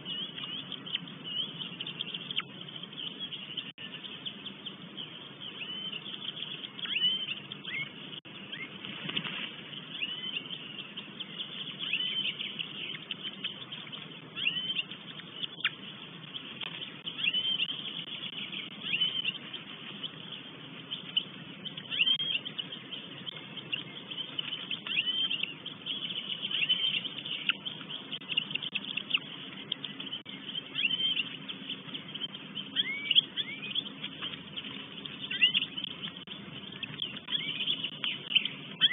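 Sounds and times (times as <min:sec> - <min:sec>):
high bird chirps: 0:00.0 - 0:08.8, 0:09.7 - 0:38.9.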